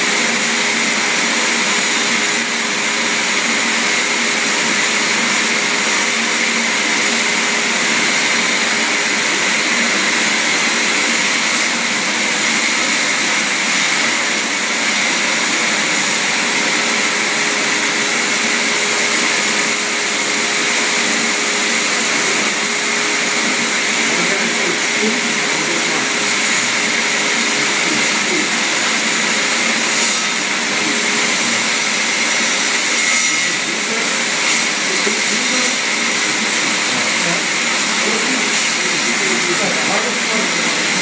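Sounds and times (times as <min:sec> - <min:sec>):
vacuum motor running: 0:00.0 - 0:41.0.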